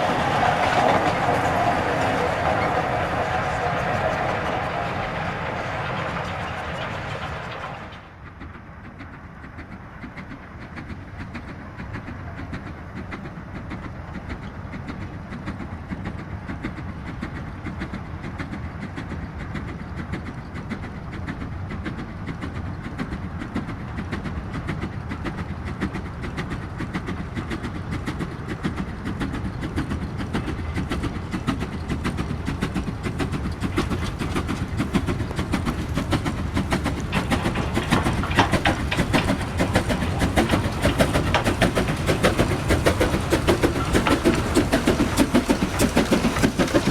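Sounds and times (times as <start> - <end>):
train rumbling on rails: 0.0 - 46.9
wheels clattering: 0.0 - 46.9.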